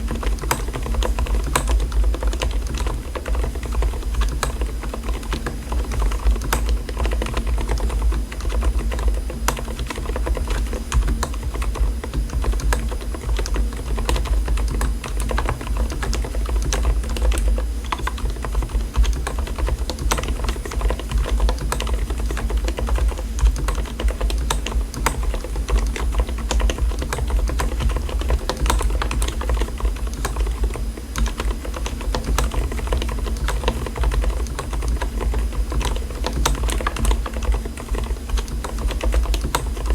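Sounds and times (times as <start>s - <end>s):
keyboard typing clicks: 0.0s - 39.9s.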